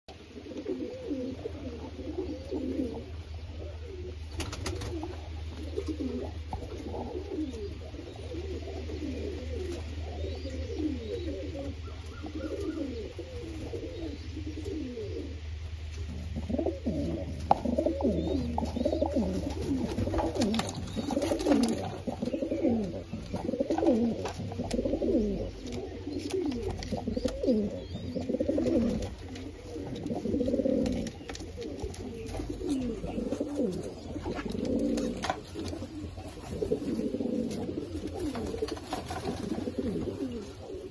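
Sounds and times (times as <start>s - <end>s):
low steady hum: 0.1s - 40.9s
pigeons cooing: 0.1s - 40.9s.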